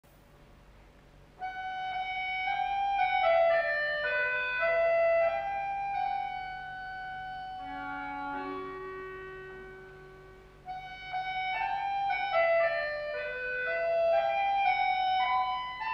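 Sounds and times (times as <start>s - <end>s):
faint steady hum: 0.0s - 15.9s
accordion duet: 1.4s - 15.9s.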